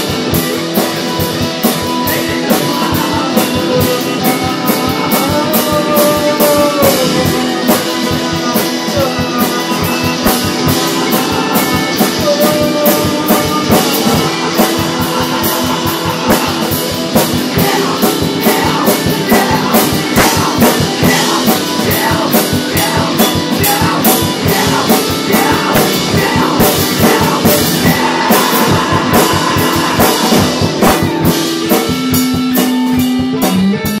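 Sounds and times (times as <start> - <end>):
drum kit fast rhythm: 0.0 - 34.0
electric guitar: 0.0 - 34.0.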